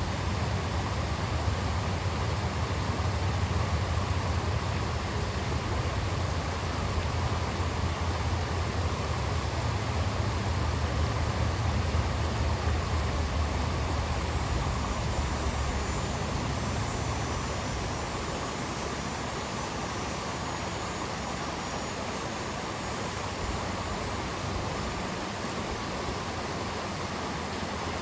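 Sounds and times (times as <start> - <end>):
stream rushing over stones: 0.0 - 28.0.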